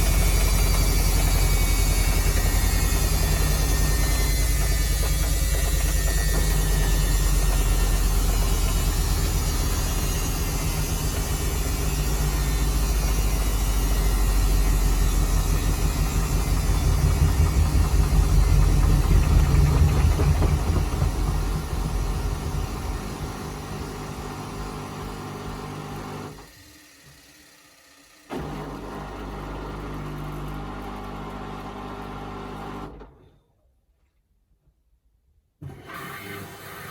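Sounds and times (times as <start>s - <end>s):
washing machine spinning: 0.0s - 32.9s.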